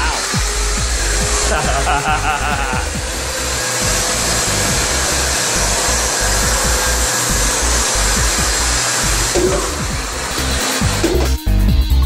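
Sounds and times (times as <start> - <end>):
drywall sander airflow rushing: 0.0 - 11.7
background music: 0.0 - 12.0.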